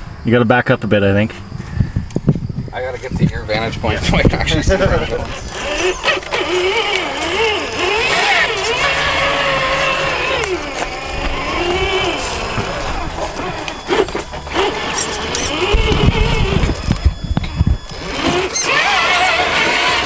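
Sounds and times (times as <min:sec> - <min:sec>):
low rumbling noise: 0:00.0 - 0:20.0
electric motor and gearbox whining: 0:01.2 - 0:20.0.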